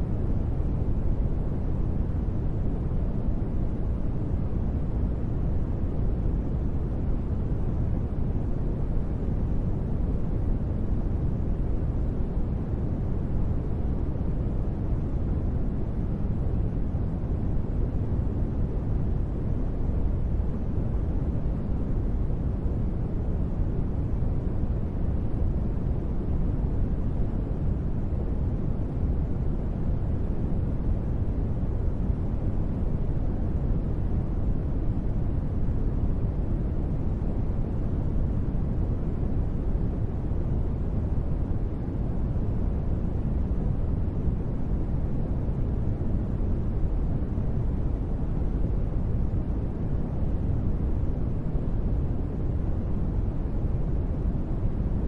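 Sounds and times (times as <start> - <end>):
deep rumbling white noise: 0.0 - 55.0.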